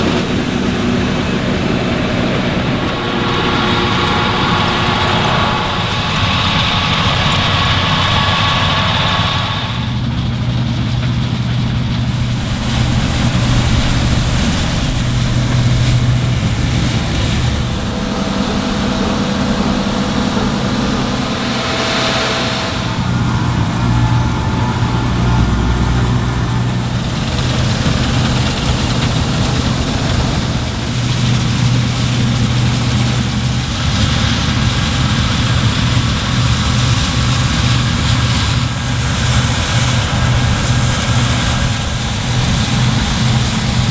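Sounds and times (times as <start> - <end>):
farm machinery engines running: 0.0 - 43.9.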